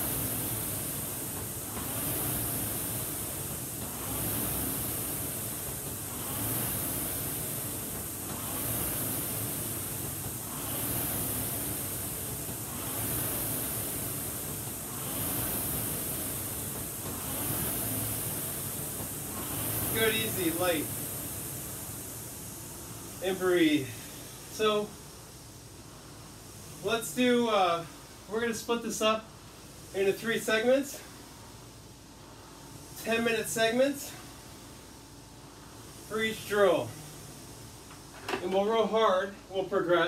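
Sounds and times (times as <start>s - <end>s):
rowing machine flywheel whooshing: 0.0s - 40.0s.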